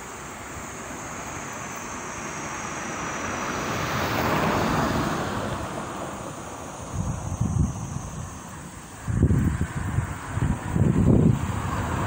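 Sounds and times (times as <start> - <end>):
broad rushing noise: 0.0 - 12.0
cicadas droning: 0.0 - 12.0.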